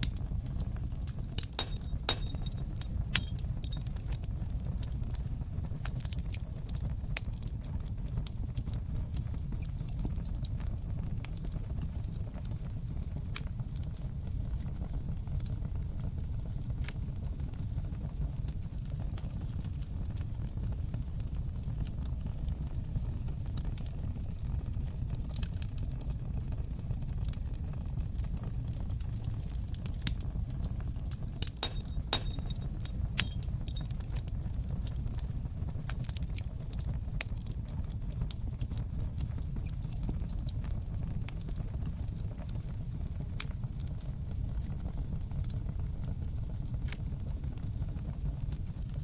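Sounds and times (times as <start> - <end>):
fire crackling in a fireplace: 0.0 - 49.0.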